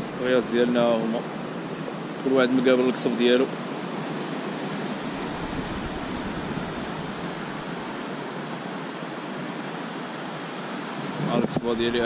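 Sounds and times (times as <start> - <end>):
low wind rumble: 0.0 - 12.0
sea surf washing up beach: 0.0 - 12.0.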